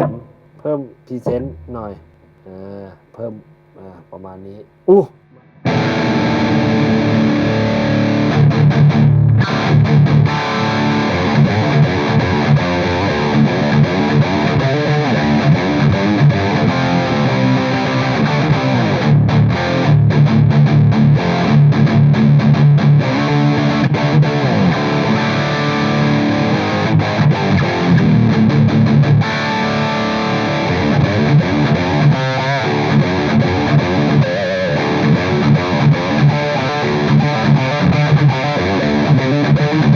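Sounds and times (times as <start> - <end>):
distorted electric guitar riffing: 0.0 - 39.9.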